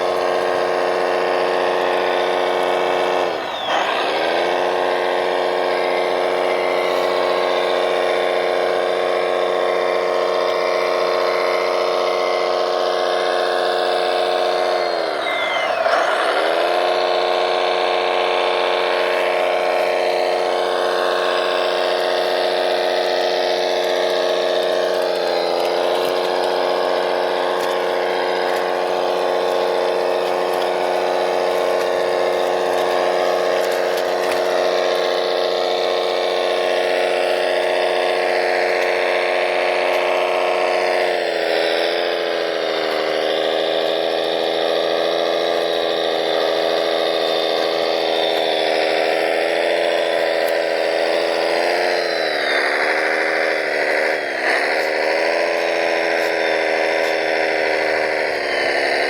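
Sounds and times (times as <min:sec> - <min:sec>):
electric motor and gearbox whining: 0:00.0 - 0:59.0.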